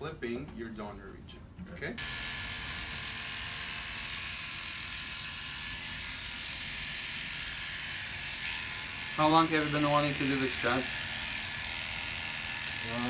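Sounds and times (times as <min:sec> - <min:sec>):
electric hair clippers running: 0:02.0 - 0:13.0.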